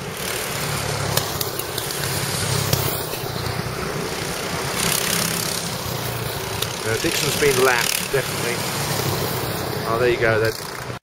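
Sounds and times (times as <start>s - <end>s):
go-kart engines passing: 0.0s - 11.0s.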